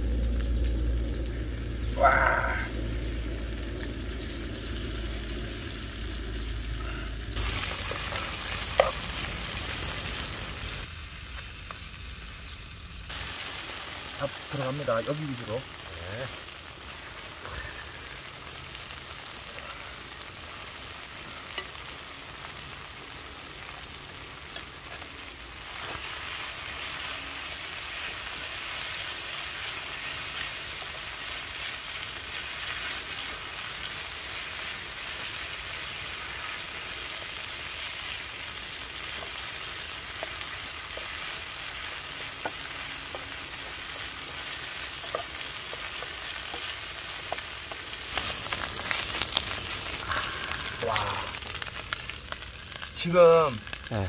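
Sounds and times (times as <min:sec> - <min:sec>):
food sizzling in frying pan: 0:00.0 - 0:54.0.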